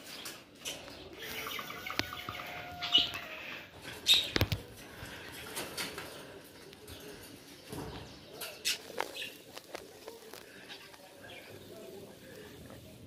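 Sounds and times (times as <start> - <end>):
wire cages clicking and clattering: 0.0 - 10.9.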